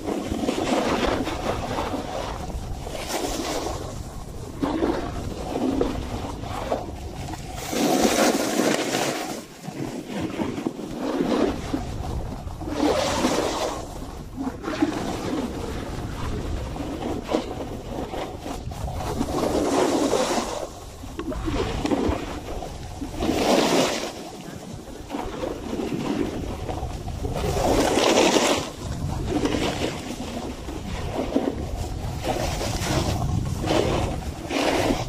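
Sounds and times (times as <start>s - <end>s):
snowboard scraping on snow: 0.0s - 14.0s, 14.6s - 35.0s
wind rumble on microphone: 0.0s - 35.0s.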